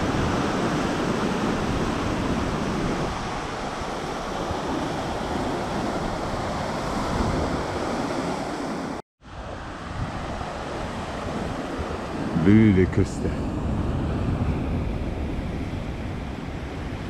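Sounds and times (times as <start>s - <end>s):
sea surf breaking on rocks: 0.0s - 16.7s.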